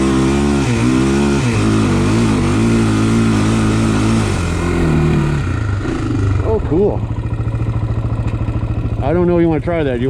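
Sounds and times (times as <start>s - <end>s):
quad engine revving: 0.0s - 10.0s.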